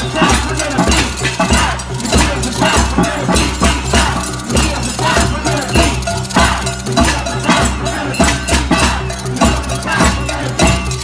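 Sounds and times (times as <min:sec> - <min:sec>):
deep percussion beat: 0:00.0 - 0:11.0
metallic clinking and rattling: 0:00.0 - 0:11.0.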